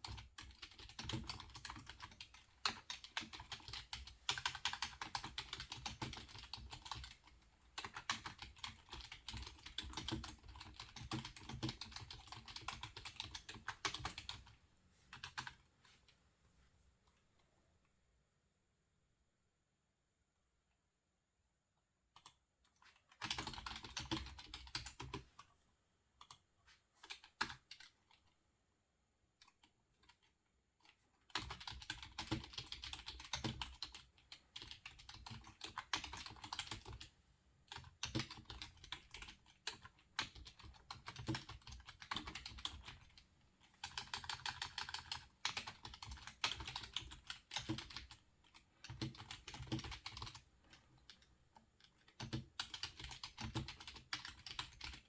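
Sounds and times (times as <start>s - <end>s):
typing on computer keyboard: 0.0s - 14.5s, 15.1s - 15.6s, 22.2s - 25.4s, 27.0s - 28.3s, 29.4s - 37.1s, 37.7s - 55.0s.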